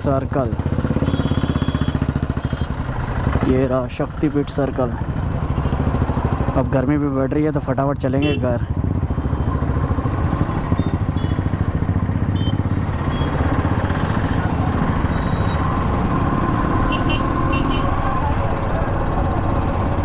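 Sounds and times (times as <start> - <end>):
motorcycle engine running: 0.0 - 7.2, 8.2 - 20.0.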